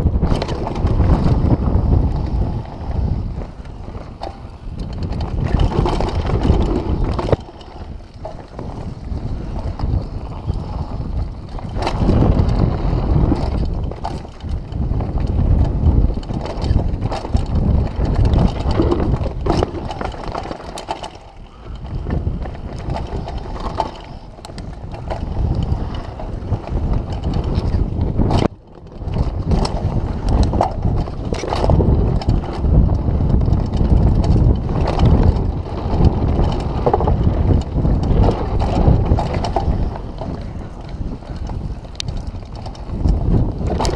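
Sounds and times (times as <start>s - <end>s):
bike knocking and clattering: 0.0s - 43.9s
tyres rumbling on dirt: 0.0s - 43.9s
wind buffeting microphone: 0.0s - 43.9s.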